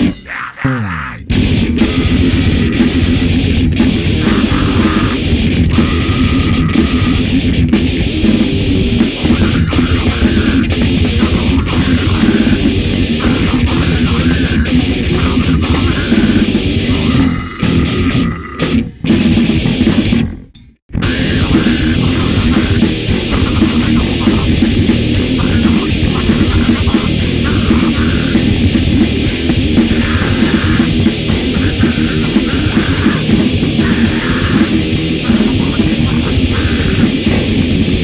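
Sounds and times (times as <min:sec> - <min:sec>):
death metal band playing live: 0:00.0 - 0:38.0.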